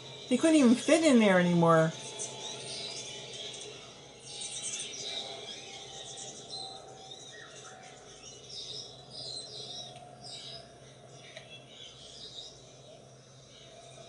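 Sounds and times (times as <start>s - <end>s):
faint steady hum: 0.0s - 14.0s
hummingbirds chirping: 0.0s - 14.0s.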